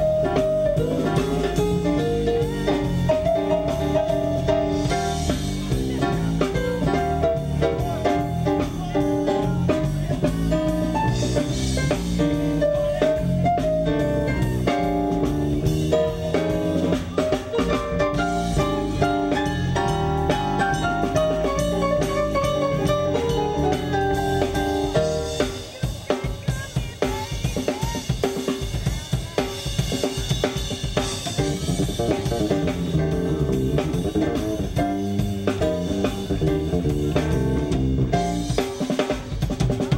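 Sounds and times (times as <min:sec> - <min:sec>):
live blues band playing: 0:00.0 - 0:39.9.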